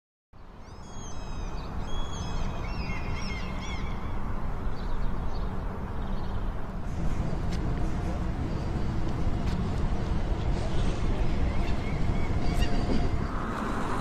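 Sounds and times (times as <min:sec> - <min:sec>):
steady low rumble: 0:02.6 - 0:14.0.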